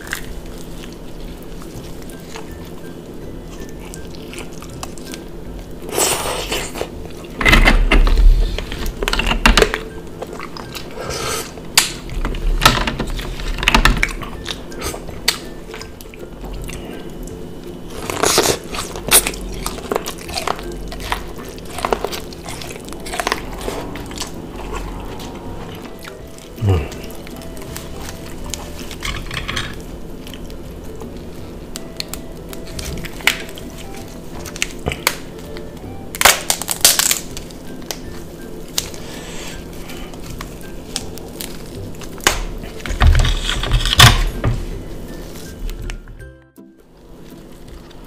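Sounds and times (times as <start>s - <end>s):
wet chewing and smacking: 0.0s - 7.4s, 8.0s - 12.2s, 13.1s - 25.0s, 25.6s - 42.9s.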